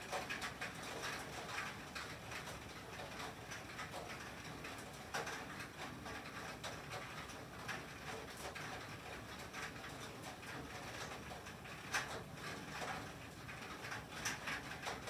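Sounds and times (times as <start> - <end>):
rain and sleet on tin roof: 0.0 - 15.0.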